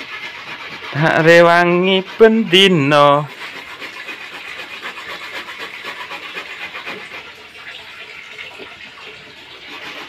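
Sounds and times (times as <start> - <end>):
coconut grating on metal grater: 0.0 - 7.5, 9.4 - 10.0.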